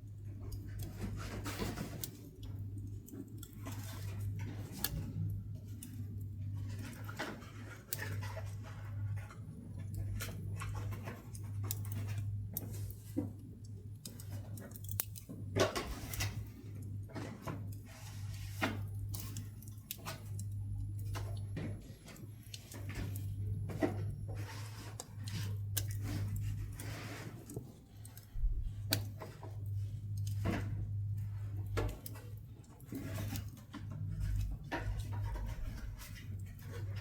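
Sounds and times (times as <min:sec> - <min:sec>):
steady low hum: 0:00.0 - 0:37.0
wood fire crackling and popping: 0:00.0 - 0:37.0.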